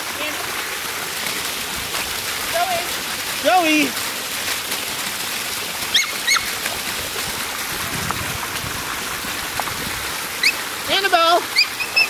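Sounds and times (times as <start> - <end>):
water rushing down rocks: 0.0 - 12.0.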